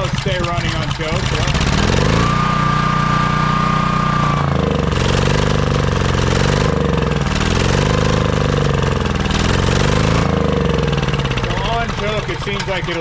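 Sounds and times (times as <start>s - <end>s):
generator engine running unevenly: 0.0s - 13.0s.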